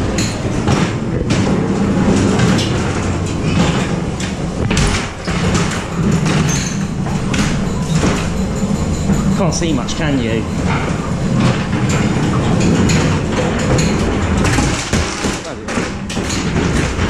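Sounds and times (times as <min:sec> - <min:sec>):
ride car rumbling on track: 0:00.0 - 0:17.0
wheels knocking and clattering: 0:00.0 - 0:17.0.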